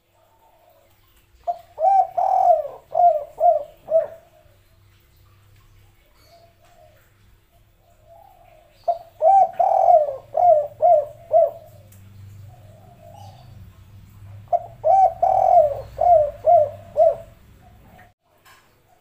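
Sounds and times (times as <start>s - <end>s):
dove cooing: 0.0s - 4.6s, 6.2s - 18.1s.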